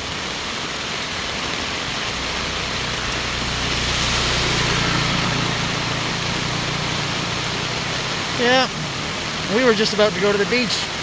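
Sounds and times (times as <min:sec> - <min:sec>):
heavy rain hissing: 0:00.0 - 0:11.0
vehicle engine humming: 0:01.2 - 0:11.0.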